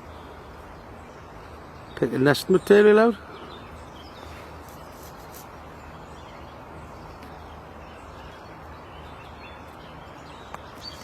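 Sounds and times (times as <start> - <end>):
bird calls and chirps: 0.0 - 11.0.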